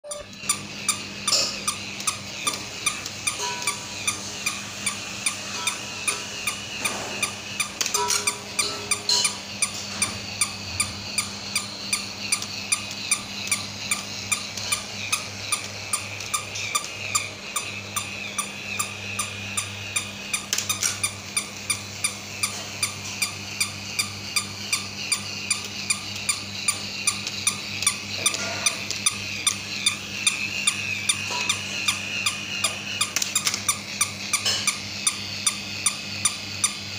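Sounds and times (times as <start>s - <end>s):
regular mechanism clicking: 0.0s - 36.9s
toy electric motor running: 0.0s - 36.9s.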